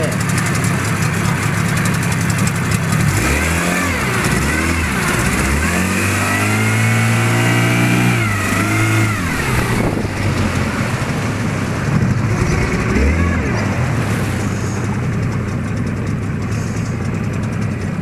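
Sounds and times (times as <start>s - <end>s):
outboard motor revving: 0.0s - 18.0s.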